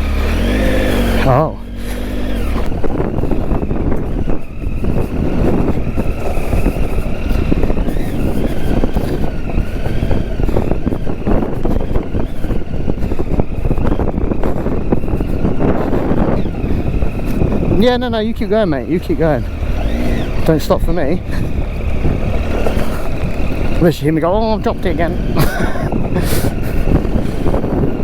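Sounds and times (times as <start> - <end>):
motorcycle engine rumbling under load: 0.0 - 28.0.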